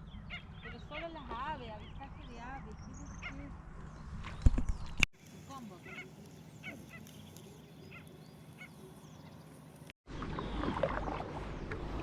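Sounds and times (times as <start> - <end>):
birds calling: 0.0 - 11.8.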